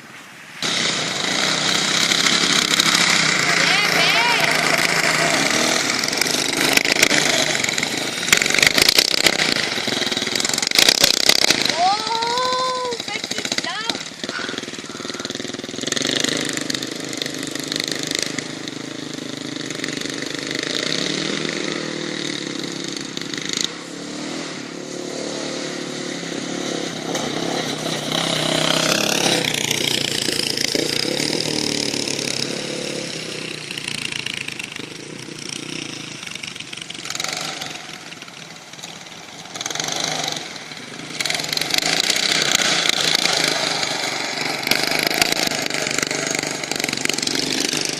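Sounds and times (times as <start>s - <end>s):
buggy engine revving: 0.6s - 47.9s.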